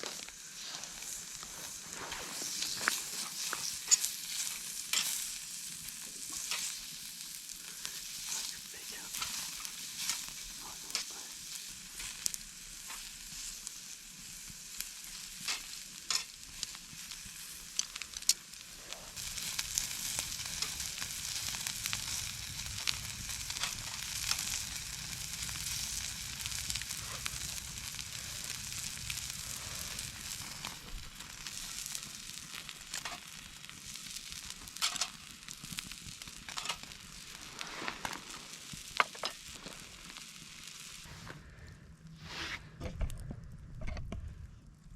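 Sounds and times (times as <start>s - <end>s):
food sizzling as it fries: 0.0s - 41.1s.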